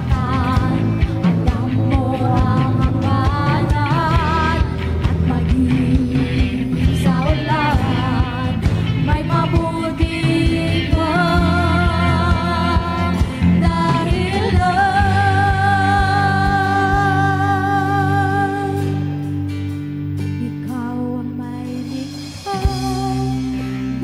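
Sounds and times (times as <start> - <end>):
person singing: 0.0 - 19.4, 20.3 - 24.0
drums: 0.0 - 24.0
guitar: 0.0 - 24.0.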